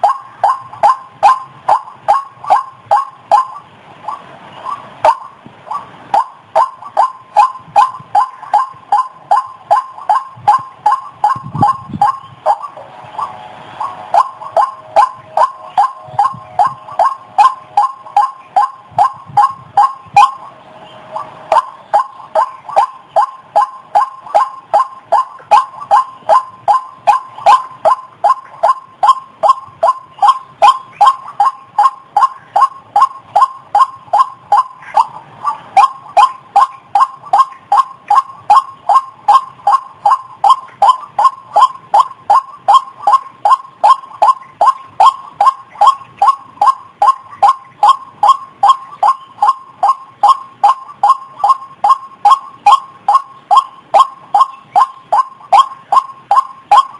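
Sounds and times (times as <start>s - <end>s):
bird croaking calls: 0.0s - 56.9s.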